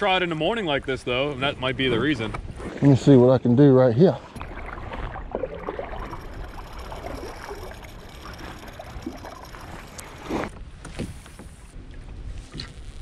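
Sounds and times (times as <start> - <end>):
faint water: 0.0 - 13.0.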